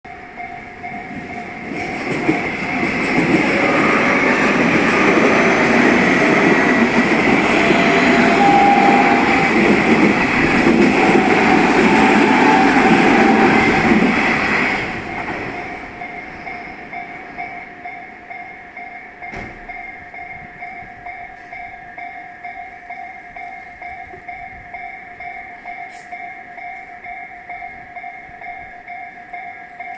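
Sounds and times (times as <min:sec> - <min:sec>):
crossing warning bell ringing: 0:00.1 - 0:29.9
electric train passing: 0:00.1 - 0:29.9.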